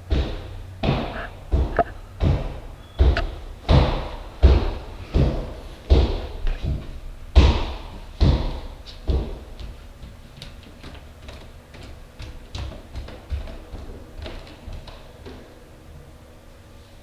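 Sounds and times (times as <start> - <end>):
heavy stomping thuds: 0.0 - 15.5.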